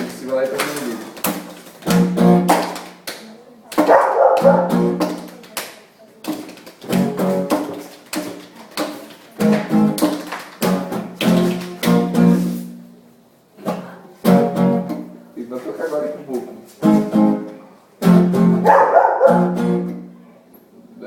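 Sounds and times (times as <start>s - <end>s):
acoustic guitar strumming: 0.0s - 3.0s, 3.8s - 5.4s, 6.2s - 15.3s, 16.7s - 20.2s.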